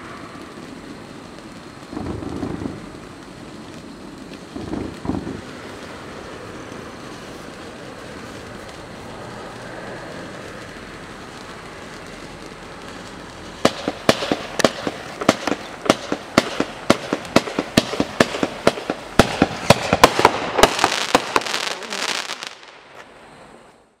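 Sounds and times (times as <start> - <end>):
firework sharp bangs: 0.0 - 23.6
crackling firework breaks: 0.0 - 23.8
firework fountain hissing: 0.0 - 24.0.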